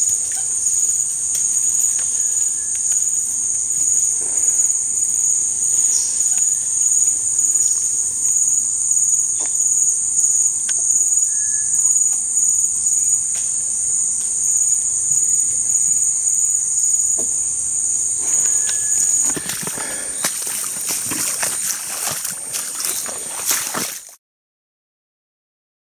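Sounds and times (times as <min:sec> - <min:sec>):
insects buzzing: 0:00.0 - 0:24.2.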